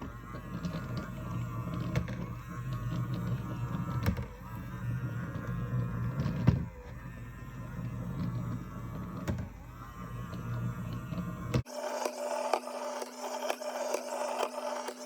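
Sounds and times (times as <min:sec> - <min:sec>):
robot cleaner motor whirring: 0:00.0 - 0:15.0.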